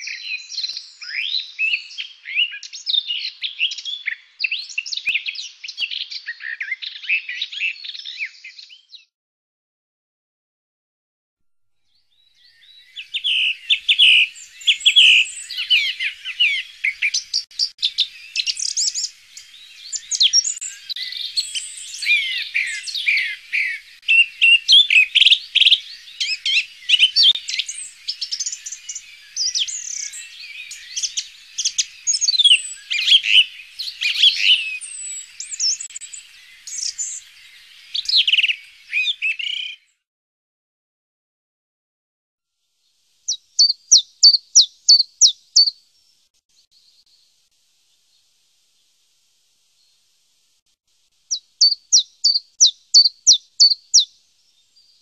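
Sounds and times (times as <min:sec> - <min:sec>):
songbirds singing: 0:00.0 - 0:09.1, 0:11.9 - 0:40.0, 0:43.3 - 0:49.0, 0:51.2 - 0:55.0.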